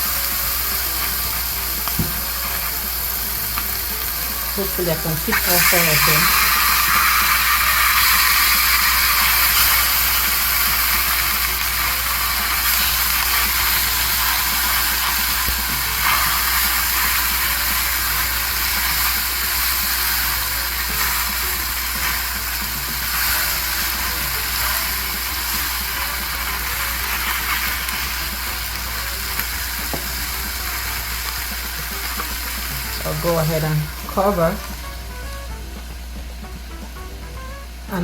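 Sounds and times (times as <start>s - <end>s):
chicken sizzling on a grill: 0.0s - 38.0s.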